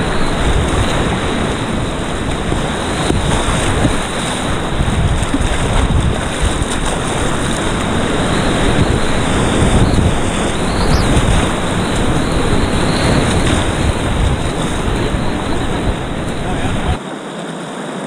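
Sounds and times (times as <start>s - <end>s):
water splashing over bow: 0.0s - 17.0s
whitewater rapids rushing: 0.0s - 18.0s.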